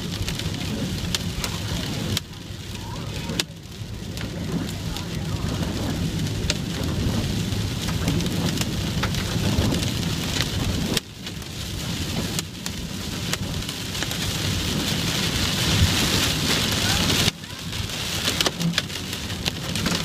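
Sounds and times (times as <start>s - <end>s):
hail clattering on a car: 0.0s - 20.0s.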